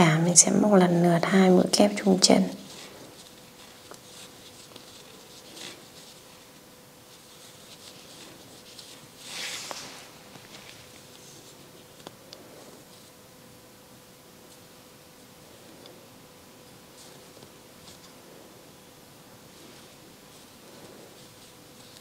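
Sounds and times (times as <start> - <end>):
crochet hook rustling yarn: 1.9 - 13.2, 14.4 - 22.0.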